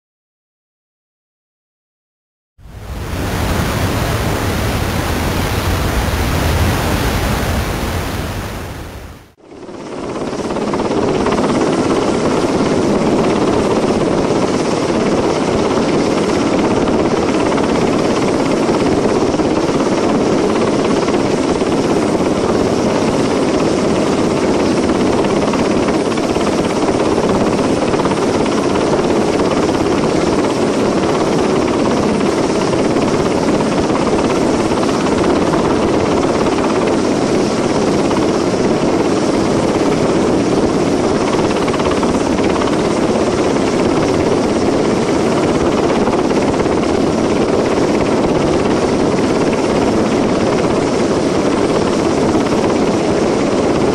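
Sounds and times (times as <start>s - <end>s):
helicopter rotor and turbine noise: 2.6s - 53.9s.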